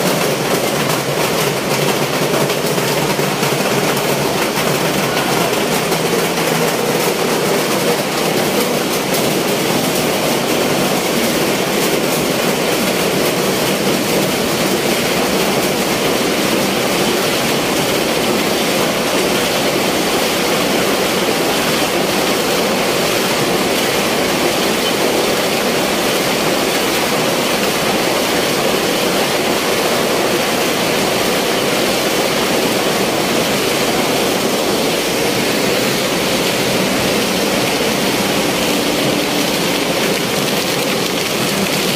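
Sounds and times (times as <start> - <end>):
ice machine mechanical din: 0.0 - 18.8, 22.6 - 41.9
ice pouring into steel hopper: 0.0 - 41.9.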